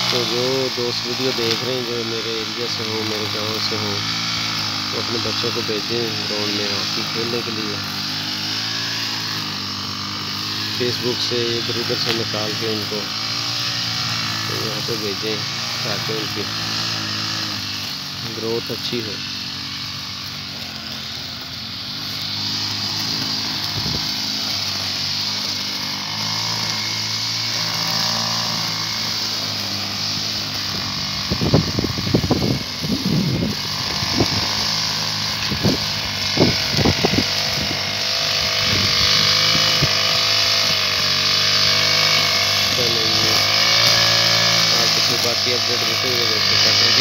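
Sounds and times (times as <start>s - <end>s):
brush cutter engine running: 0.0s - 47.0s.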